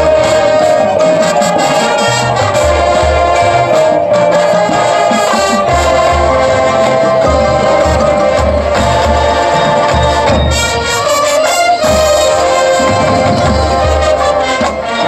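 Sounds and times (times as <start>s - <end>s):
brass sustained chords: 0.0s - 15.0s.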